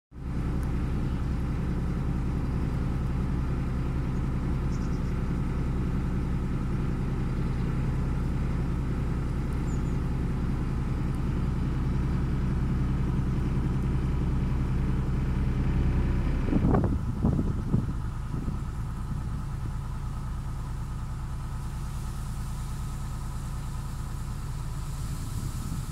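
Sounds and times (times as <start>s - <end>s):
boat engine humming: 0.1s - 25.9s.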